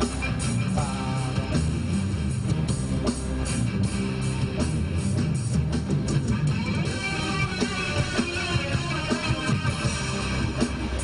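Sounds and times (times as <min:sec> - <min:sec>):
rock band music: 0:00.0 - 0:11.0.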